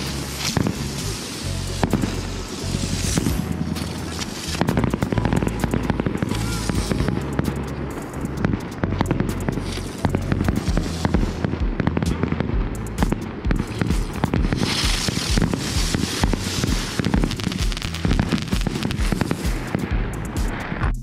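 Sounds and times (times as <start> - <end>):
rushing hiss: 0.0 - 11.6, 13.0 - 20.8
fireworks crackling and popping: 0.0 - 21.0.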